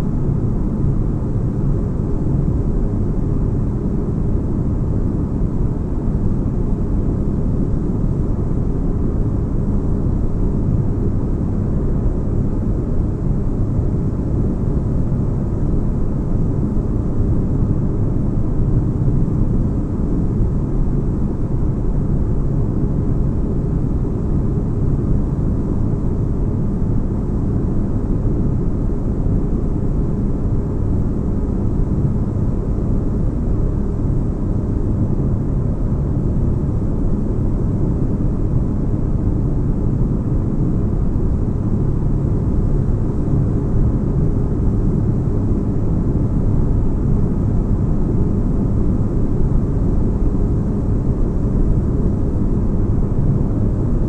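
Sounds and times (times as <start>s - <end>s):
deep bass-heavy ambient noise: 0.0s - 54.0s.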